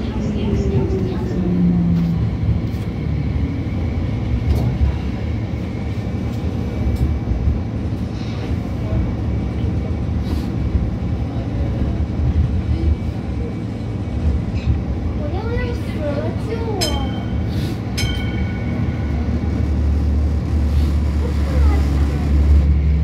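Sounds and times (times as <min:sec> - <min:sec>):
train car rumbling on track: 0:00.0 - 0:23.0.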